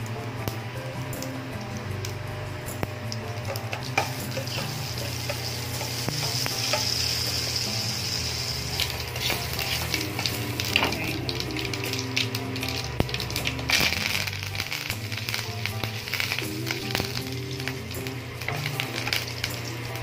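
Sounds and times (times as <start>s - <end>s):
popping crackles: 0.0s - 20.0s
spices sizzling in hot oil: 0.0s - 20.0s.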